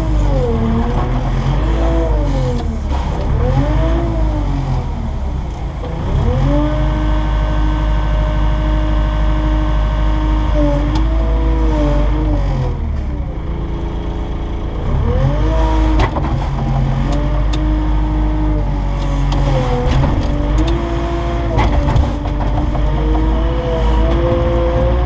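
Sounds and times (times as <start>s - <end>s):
diesel engine working hydraulics: 0.0s - 25.0s.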